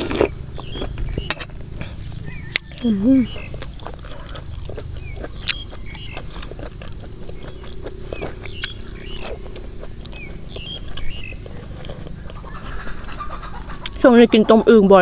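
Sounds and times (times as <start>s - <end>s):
close chewing with mouth smacks: 0.0s - 14.5s
bird chirping faintly: 0.2s - 3.6s, 4.2s - 15.0s.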